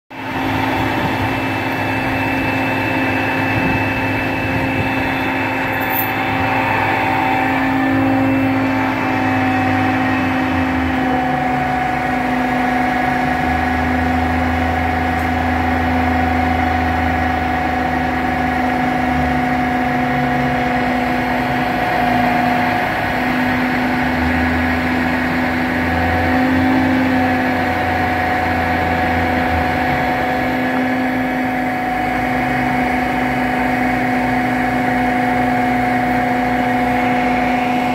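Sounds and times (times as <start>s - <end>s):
crane engine rumbling: 0.1s - 37.9s
steady whine: 0.1s - 37.9s.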